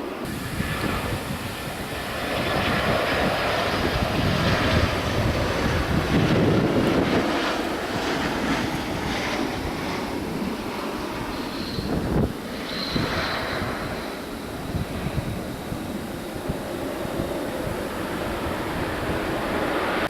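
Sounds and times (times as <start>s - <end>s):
jet airliner passing: 0.0s - 20.0s.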